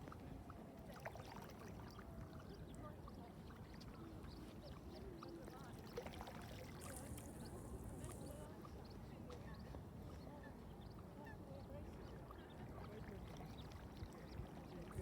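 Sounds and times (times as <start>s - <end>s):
faint lapping water: 0.0s - 15.0s
ducklings pattering across water: 1.1s - 15.0s.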